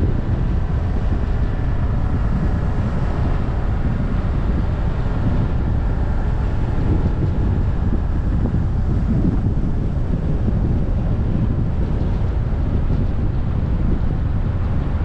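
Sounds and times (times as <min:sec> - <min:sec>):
faint engine tone: 0:00.0 - 0:15.0
wind rush and road noise: 0:00.0 - 0:15.0.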